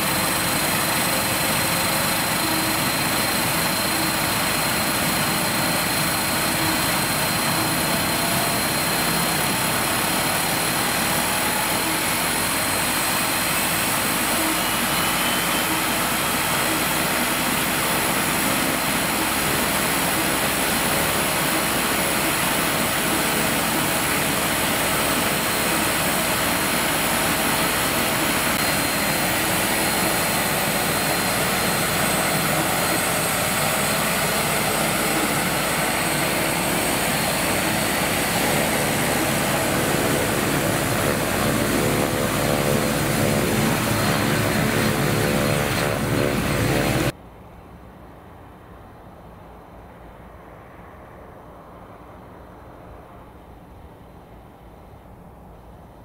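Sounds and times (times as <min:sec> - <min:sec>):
propeller and exhaust rush: 0:00.0 - 0:56.0
turboprop engine turbine whine: 0:00.0 - 0:56.0.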